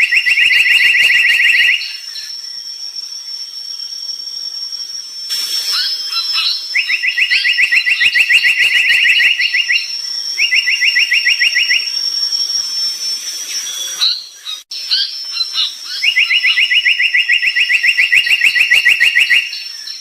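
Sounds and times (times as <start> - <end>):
songbird chirps and trills: 0.0 - 20.0
steady high-pitched whine: 0.0 - 20.0.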